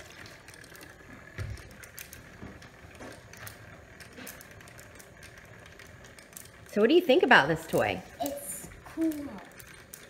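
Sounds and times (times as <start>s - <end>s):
toy motor clicking and rattling: 0.0s - 10.0s.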